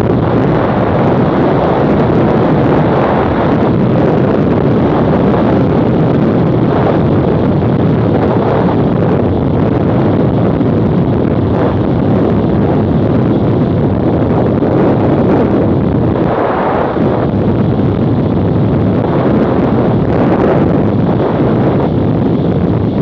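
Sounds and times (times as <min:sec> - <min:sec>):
wind rush on microphone: 0:00.0 - 0:23.0.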